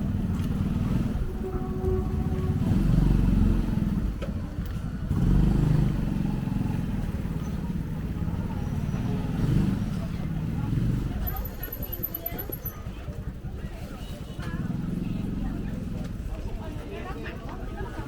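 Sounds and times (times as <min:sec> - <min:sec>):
motorbike engines in traffic: 0:00.0 - 0:18.0.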